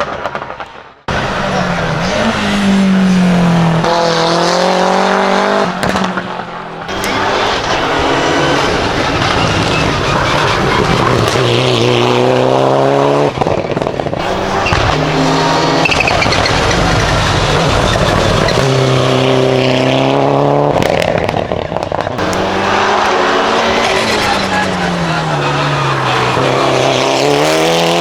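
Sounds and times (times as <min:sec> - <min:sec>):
race car engine at full throttle: 0:01.0 - 0:28.0.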